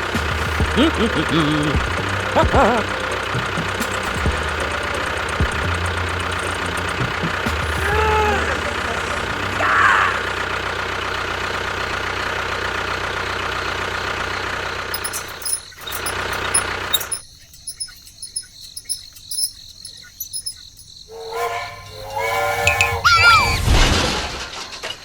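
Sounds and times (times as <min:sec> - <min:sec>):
small engine running: 0:00.0 - 0:20.5.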